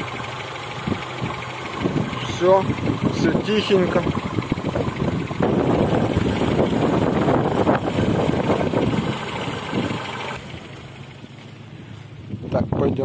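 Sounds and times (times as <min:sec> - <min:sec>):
car engine idling quietly: 0:00.0 - 0:13.0.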